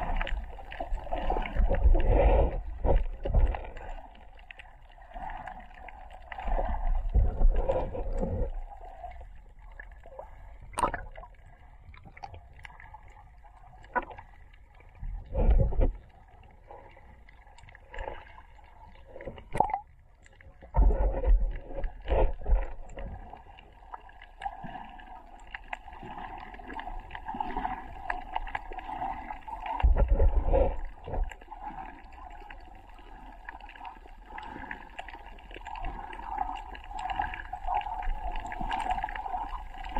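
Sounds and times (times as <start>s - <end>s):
underwater water surging: 0.0s - 39.9s.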